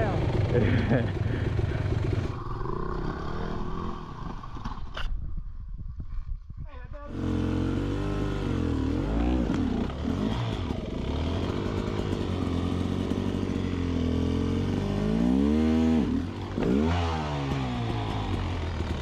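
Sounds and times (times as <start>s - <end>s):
dirt bike engine revving: 0.0s - 4.9s, 7.1s - 19.0s.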